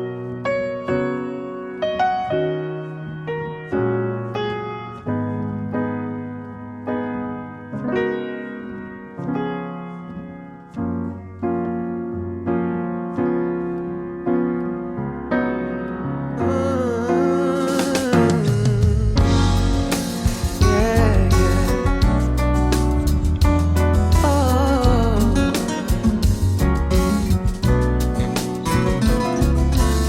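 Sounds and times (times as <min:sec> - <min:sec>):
piano playing slow chords: 0:00.0 - 0:30.0.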